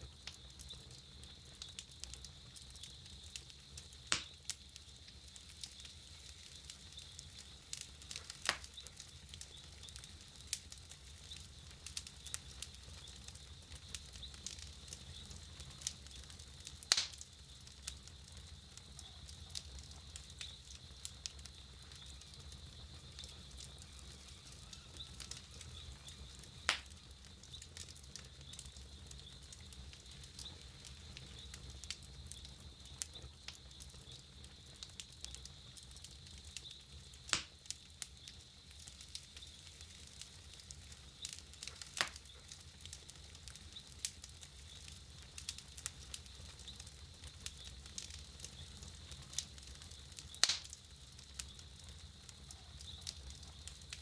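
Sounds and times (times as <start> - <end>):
campfire crackling: 0.0 - 54.0
loud fire pops: 0.1 - 54.0.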